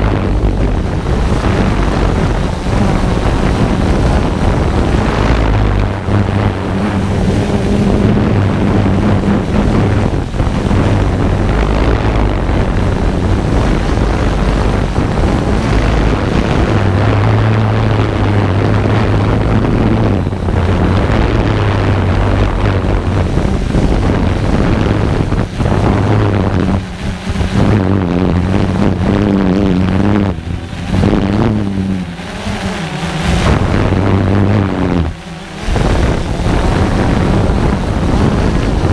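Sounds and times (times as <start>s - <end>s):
drone motors humming: 0.0s - 38.9s
wind noise on microphone: 0.0s - 38.9s.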